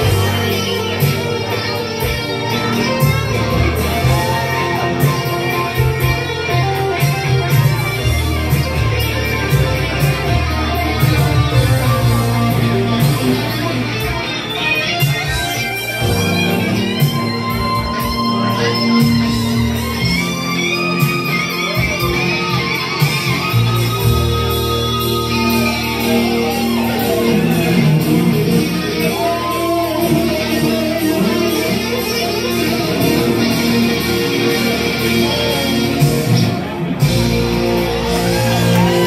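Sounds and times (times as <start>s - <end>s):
bass notes and chords: 0.0s - 39.0s
electric guitar lead: 0.0s - 39.0s.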